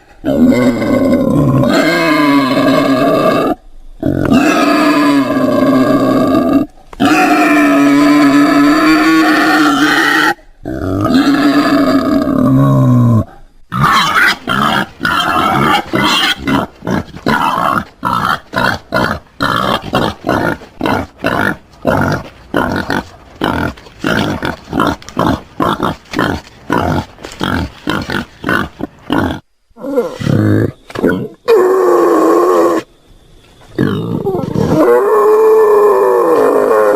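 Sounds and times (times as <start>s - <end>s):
wild boar calling: 0.0s - 32.9s.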